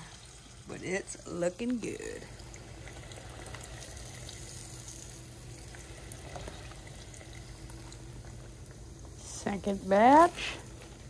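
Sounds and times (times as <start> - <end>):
fish frying in oil: 0.0 - 11.0.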